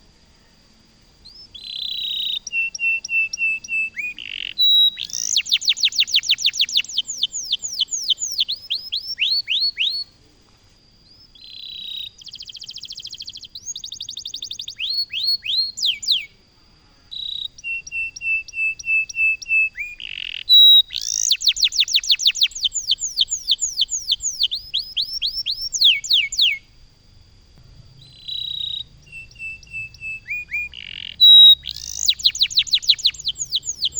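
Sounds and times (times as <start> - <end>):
canary singing: 1.2 - 10.1, 11.1 - 16.3, 17.1 - 26.7, 28.0 - 33.9.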